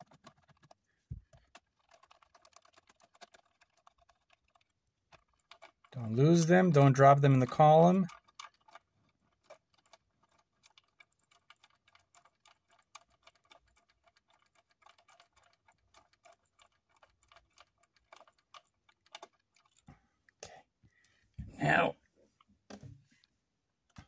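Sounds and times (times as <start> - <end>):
small clicks and ticks: 0.0 - 20.4.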